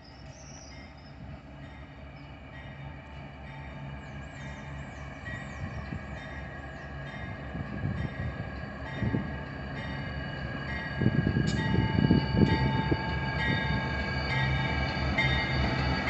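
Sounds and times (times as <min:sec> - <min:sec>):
freight train rumbling: 0:00.0 - 0:16.0
metallic wheel whine: 0:00.2 - 0:16.0.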